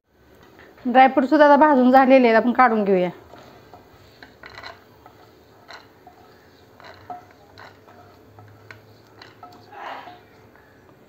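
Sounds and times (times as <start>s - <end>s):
spatula scraping nuts in a pan: 1.8s - 10.8s.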